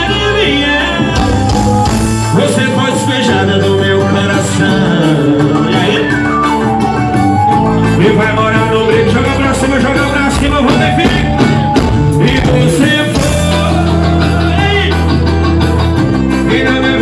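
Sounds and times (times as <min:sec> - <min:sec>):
band music: 0:00.0 - 0:17.0.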